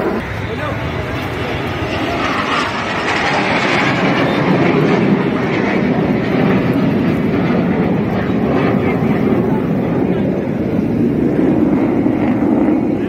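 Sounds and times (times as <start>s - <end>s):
jet aircraft roaring overhead: 0.0s - 13.0s.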